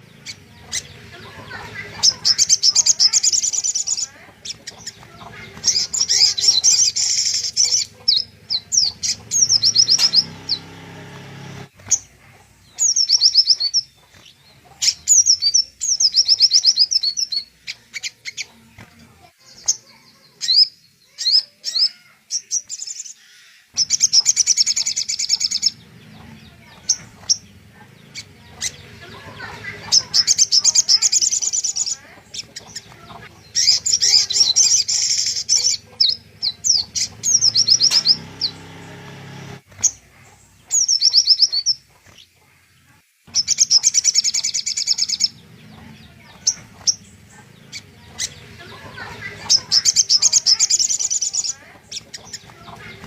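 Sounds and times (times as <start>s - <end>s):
songbird trilling and chattering: 0.0s - 10.9s, 11.6s - 53.0s.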